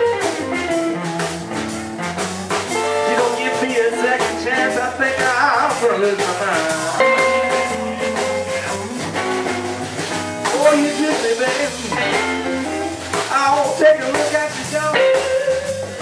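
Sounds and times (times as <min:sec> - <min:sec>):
electric guitar bending notes: 0:00.0 - 0:16.0
live blues band playing: 0:00.0 - 0:16.0.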